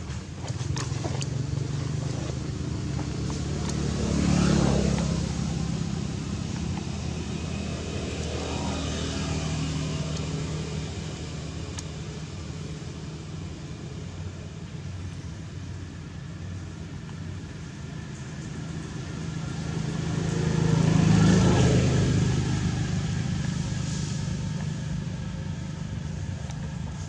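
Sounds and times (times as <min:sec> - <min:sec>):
vehicle passing close: 0:00.0 - 0:12.6, 0:17.9 - 0:27.0
vehicle engine running: 0:00.0 - 0:27.0.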